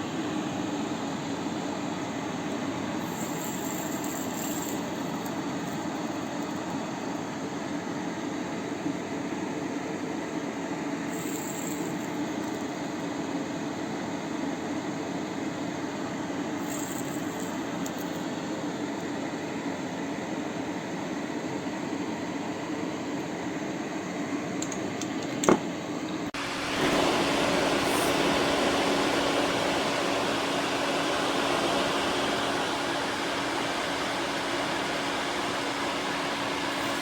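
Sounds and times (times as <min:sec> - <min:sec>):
small fan whirring: 0:00.0 - 0:37.0.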